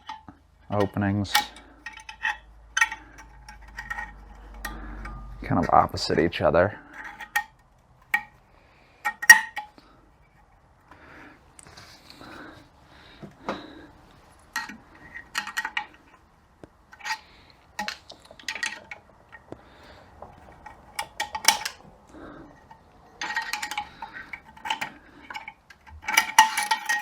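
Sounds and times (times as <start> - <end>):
small metal parts clinking: 0.0 - 9.8, 14.4 - 16.2, 16.9 - 27.0.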